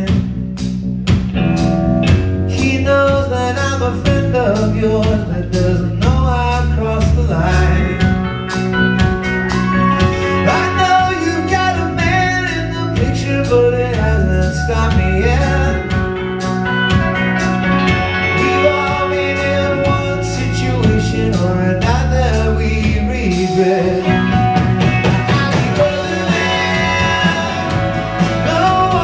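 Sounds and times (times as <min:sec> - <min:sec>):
drums: 0:00.0 - 0:29.0
electric bass: 0:00.0 - 0:29.0
electric guitar: 0:00.0 - 0:29.0
person singing: 0:02.5 - 0:08.3, 0:09.8 - 0:16.0, 0:17.8 - 0:29.0.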